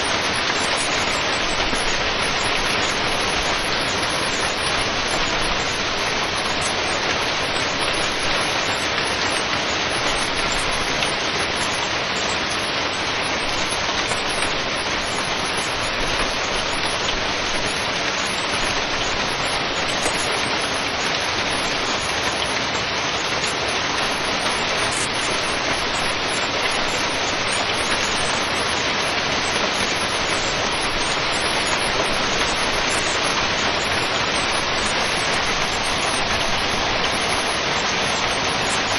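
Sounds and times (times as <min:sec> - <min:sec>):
hailstones pattering: 0:00.0 - 0:38.9.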